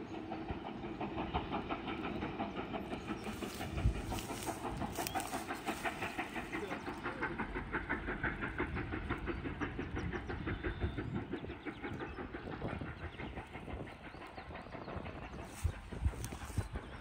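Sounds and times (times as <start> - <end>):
steam locomotive running by: 0.0 - 17.0.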